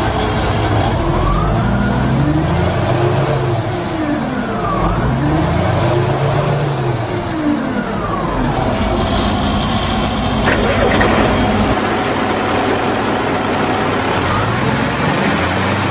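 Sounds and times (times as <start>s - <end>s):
diesel engine revving: 0.0s - 15.9s.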